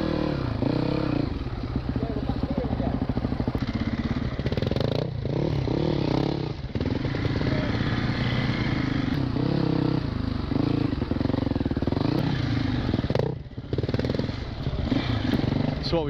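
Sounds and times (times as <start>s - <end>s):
dirt bike engine: 0.0s - 16.0s.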